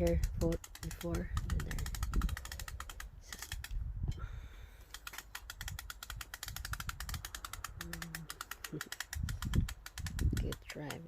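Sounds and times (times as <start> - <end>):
crank ratchet clicking rapidly: 0.0 - 3.8, 4.9 - 11.0.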